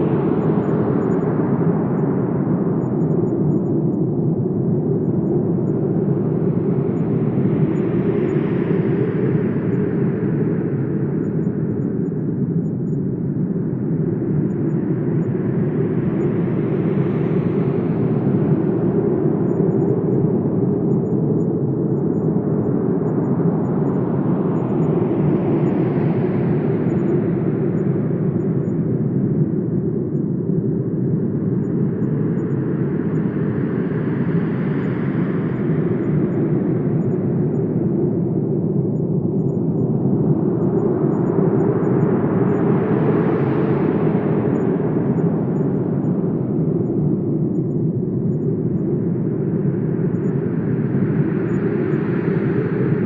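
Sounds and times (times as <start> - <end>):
wind noise with gusts: 0.0 - 53.0.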